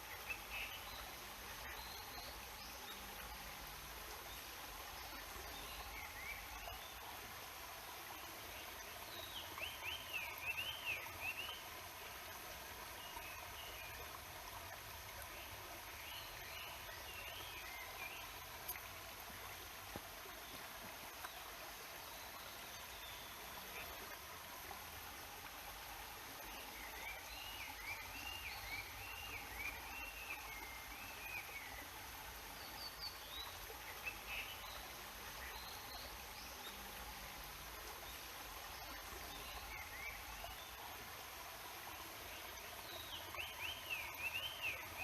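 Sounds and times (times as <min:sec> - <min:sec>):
songbirds chirping: 0:00.0 - 0:45.0
stream rushing: 0:00.0 - 0:45.0.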